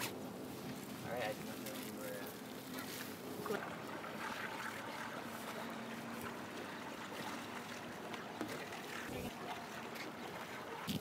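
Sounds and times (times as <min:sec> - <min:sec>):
outdoor noise: 0:00.0 - 0:11.0
water lapping against hull: 0:00.0 - 0:11.0.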